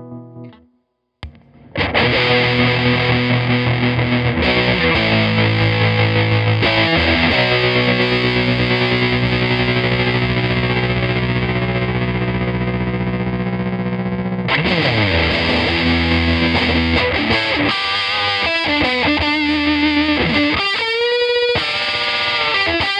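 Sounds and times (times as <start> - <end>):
distorted electric guitars with tremolo: 1.2 - 22.9.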